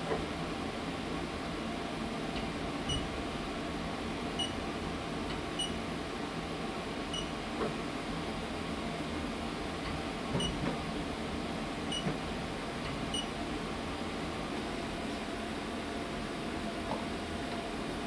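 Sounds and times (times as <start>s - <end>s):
machining centre humming: 0.4s - 18.0s.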